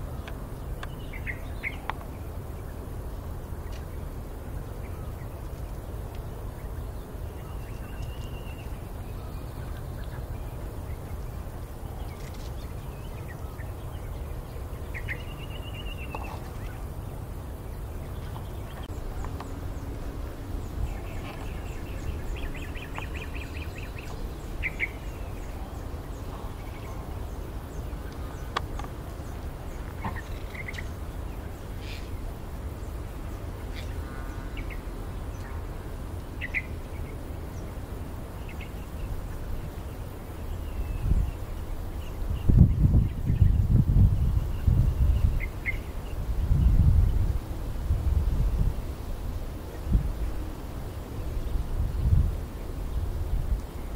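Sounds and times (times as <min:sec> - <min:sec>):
steady low rumble: 0:00.0 - 0:53.9.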